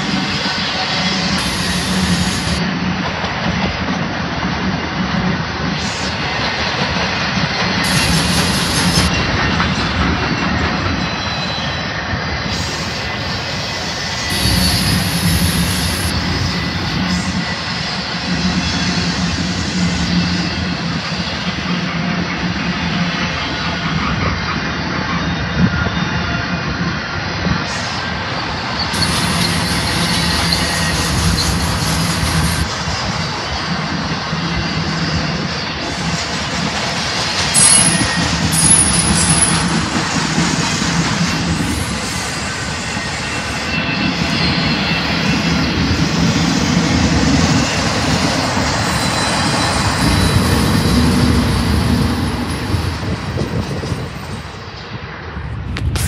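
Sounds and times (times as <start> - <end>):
steel wheels on rails: 0.0 - 56.0.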